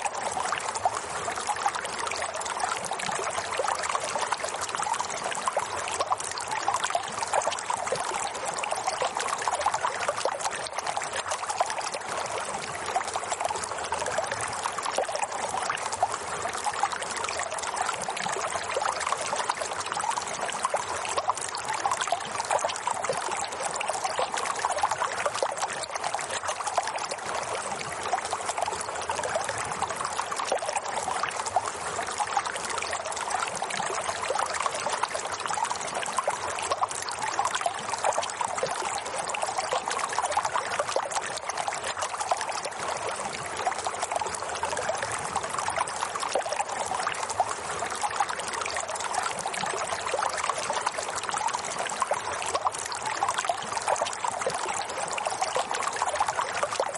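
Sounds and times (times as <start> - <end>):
water flowing: 0.0 - 56.9.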